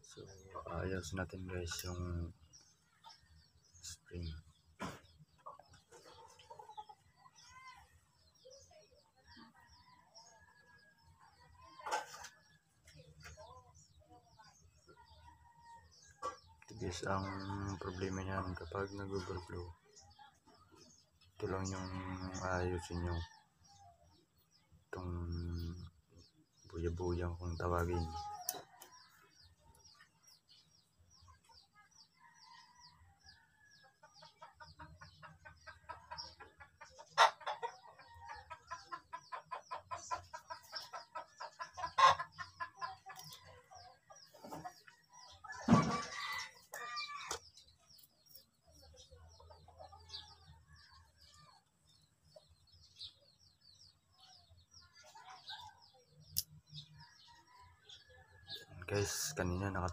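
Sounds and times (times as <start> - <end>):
chickens clucking: 0.0 - 59.9
small birds chirping: 0.0 - 59.9.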